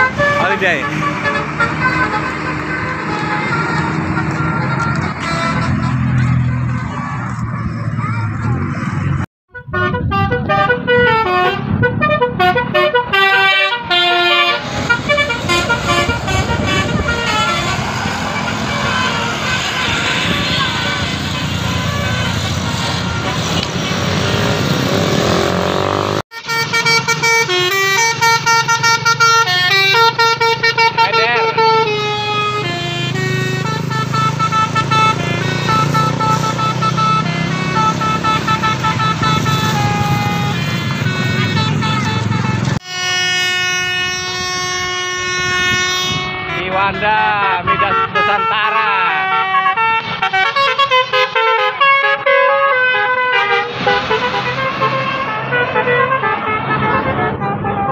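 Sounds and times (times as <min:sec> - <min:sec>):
bus horn playing melody: 0:00.0 - 0:06.4, 0:09.5 - 0:57.9
bus passing by: 0:00.0 - 0:46.6, 0:49.0 - 0:57.9.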